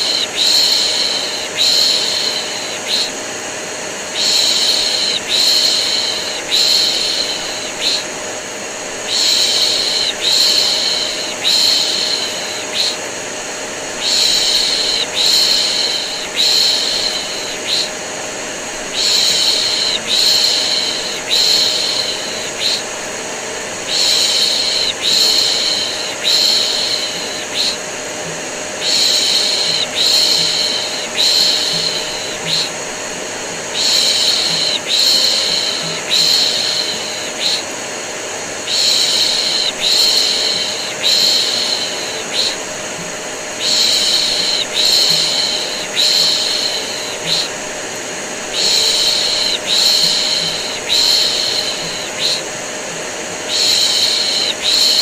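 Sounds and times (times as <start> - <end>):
vacuum cleaner drone: 0.0 - 55.0.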